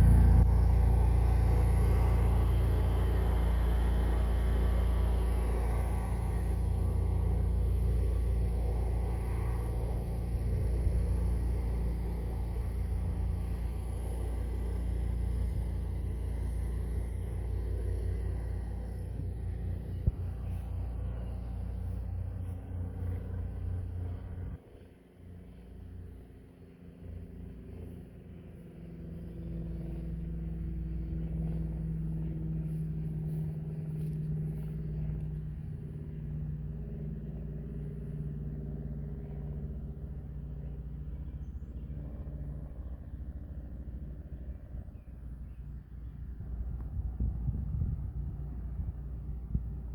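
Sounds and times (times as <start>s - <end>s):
lawn mower engine running: 0.0s - 41.2s.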